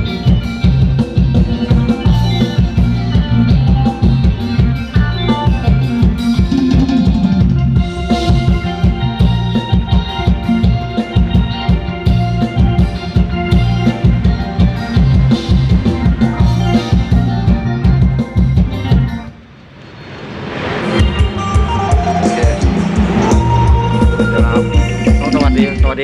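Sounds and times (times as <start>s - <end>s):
loud music with heavy bass: 0.0s - 19.3s, 20.8s - 26.0s.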